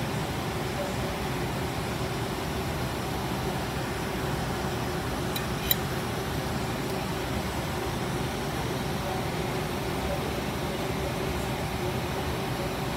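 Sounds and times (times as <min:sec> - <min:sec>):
low mechanical hum: 0:00.0 - 0:12.9.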